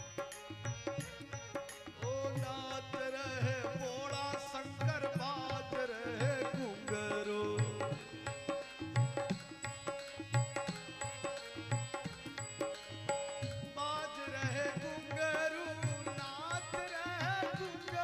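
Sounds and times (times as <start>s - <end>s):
harmonium chords: 0.0s - 18.0s.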